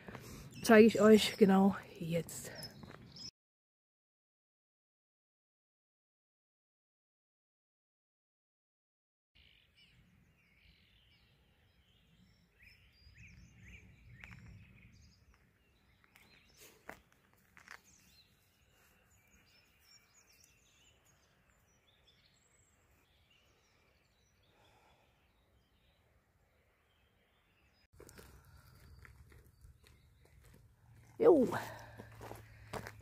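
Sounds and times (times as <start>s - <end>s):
small songbirds chirping: 0.0s - 3.3s, 9.4s - 33.0s.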